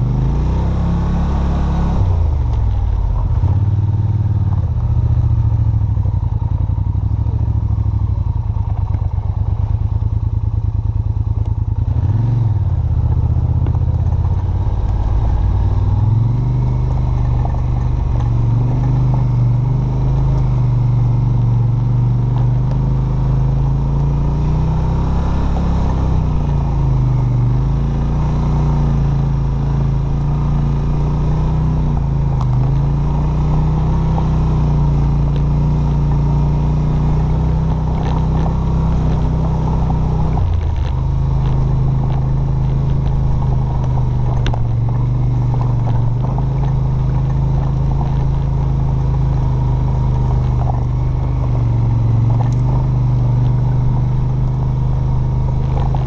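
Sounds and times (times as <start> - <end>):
atv engine revving: 0.0 - 5.5, 11.7 - 56.0.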